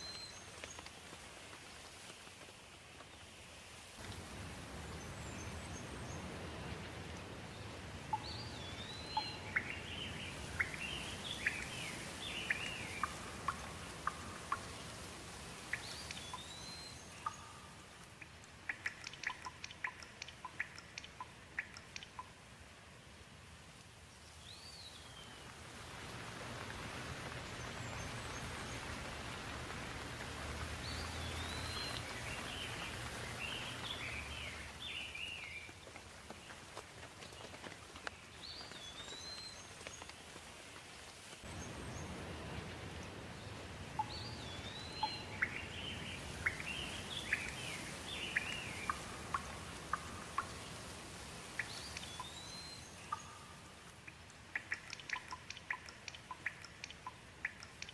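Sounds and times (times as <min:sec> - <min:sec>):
sharp drip-like ticks: 0:00.0 - 0:03.1, 0:04.0 - 0:23.0, 0:23.8 - 0:57.9
steady rain: 0:00.0 - 0:57.9
songbirds chirping: 0:04.0 - 0:57.9.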